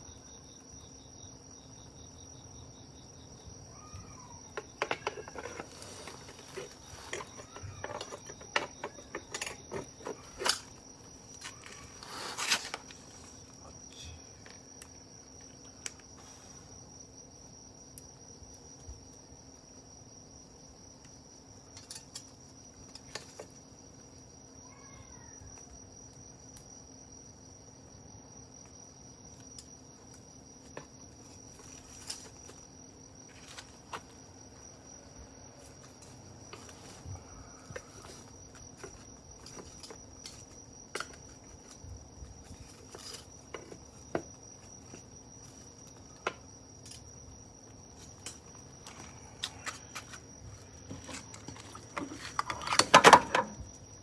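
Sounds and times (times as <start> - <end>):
high-pitched insect trill: 0.0 - 54.0.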